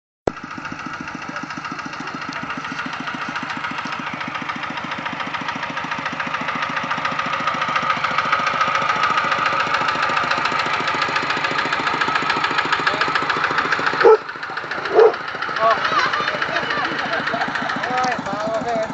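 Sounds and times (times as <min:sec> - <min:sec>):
diesel engine chugging: 0:00.3 - 0:18.9.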